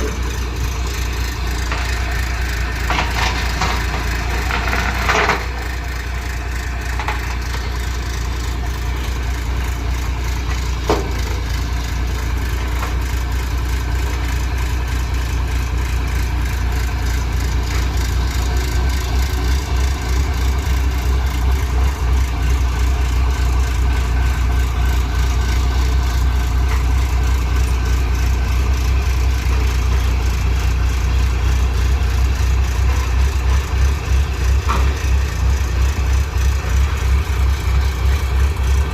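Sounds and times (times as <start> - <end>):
heavy vehicle engine rumbling: 0.0 - 38.9.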